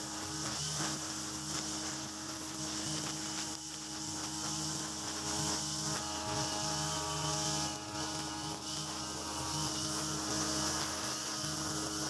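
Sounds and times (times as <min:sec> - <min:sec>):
brush cutter cutting grass: 0:00.0 - 0:12.0.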